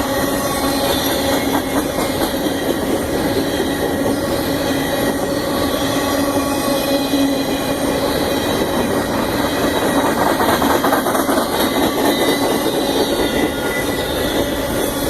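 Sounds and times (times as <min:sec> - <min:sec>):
high-pitched wheel squealing: 0:00.0 - 0:15.0
train wheels rumbling on rail: 0:00.0 - 0:15.0.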